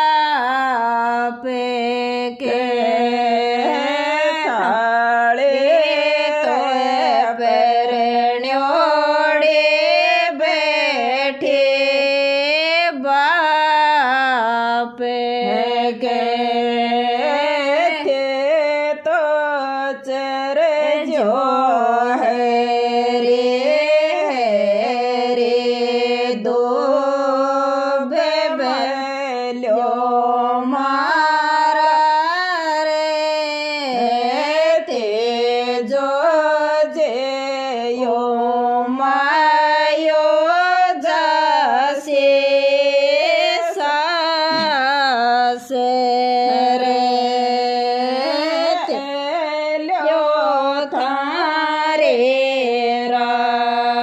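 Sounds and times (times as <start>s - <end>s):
woman singing folk song: 0.0s - 54.0s.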